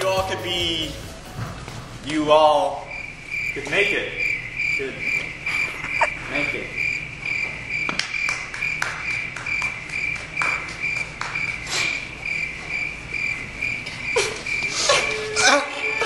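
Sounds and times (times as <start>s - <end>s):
crickets chirping: 1.1s - 16.0s.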